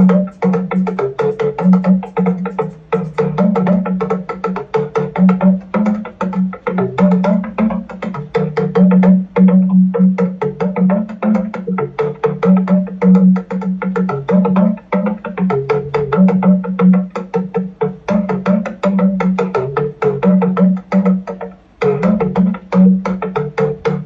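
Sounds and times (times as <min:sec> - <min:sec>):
talking drum struck with stick: 0:00.0 - 0:24.0.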